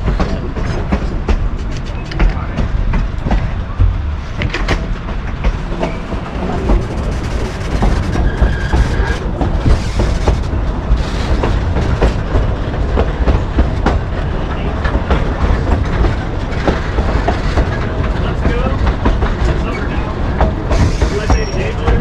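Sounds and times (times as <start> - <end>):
train rumbling on track: 0.0 - 22.0
wheels clicking over rail joints: 0.0 - 22.0.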